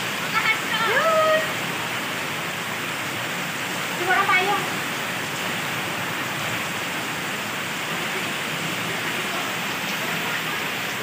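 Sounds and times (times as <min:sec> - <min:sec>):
heavy rain on wet paving: 0:00.0 - 0:11.0.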